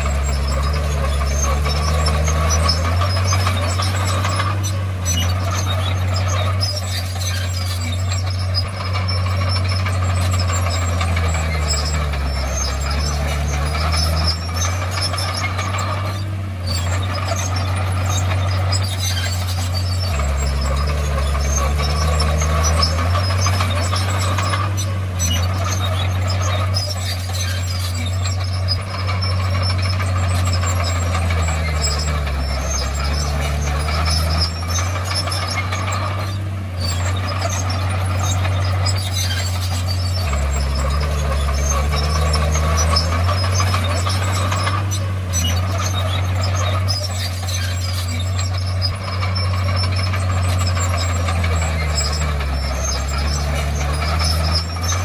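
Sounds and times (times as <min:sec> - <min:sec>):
bulldozer diesel engine under load: 0:00.0 - 0:55.0
machine squeaks and clatter: 0:00.0 - 0:55.0.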